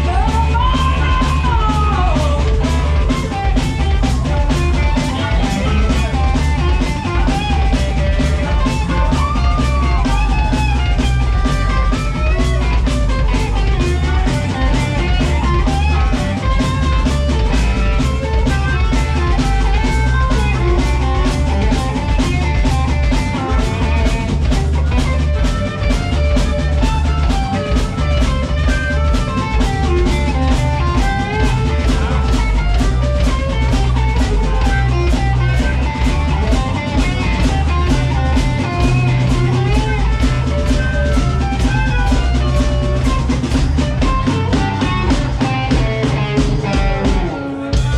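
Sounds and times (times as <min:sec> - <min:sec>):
drum kit beat: 0:00.0 - 0:47.9
electric guitar: 0:00.0 - 0:47.9.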